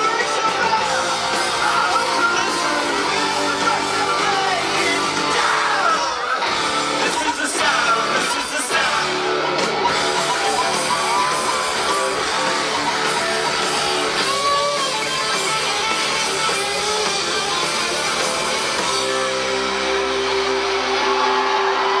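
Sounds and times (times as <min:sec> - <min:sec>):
electric guitars: 0:00.0 - 0:22.0
live rock band: 0:00.0 - 0:22.0.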